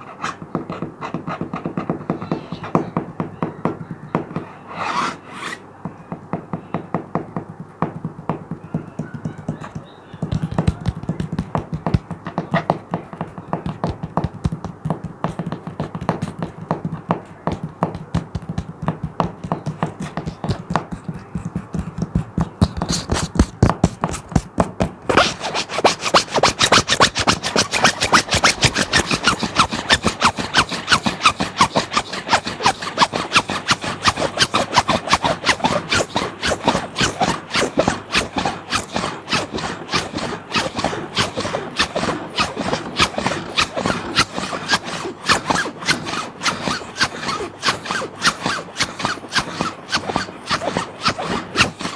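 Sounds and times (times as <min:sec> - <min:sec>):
scratching on plastic sheet: 0:00.0 - 0:51.9.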